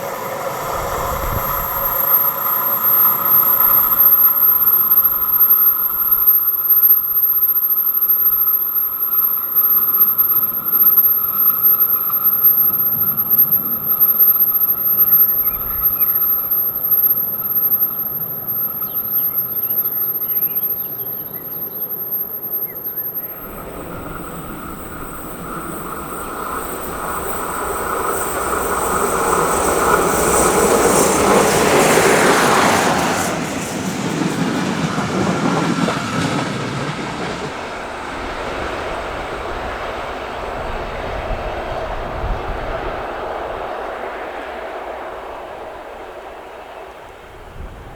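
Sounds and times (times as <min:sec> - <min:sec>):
train approaching: 0:00.0 - 0:47.9
train rolling rumble: 0:00.0 - 0:47.9.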